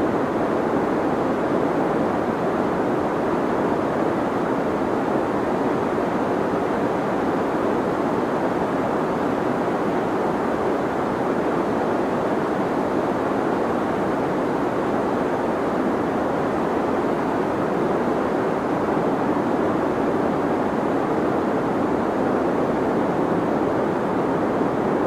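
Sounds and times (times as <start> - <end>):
deep white noise: 0.0 - 25.0.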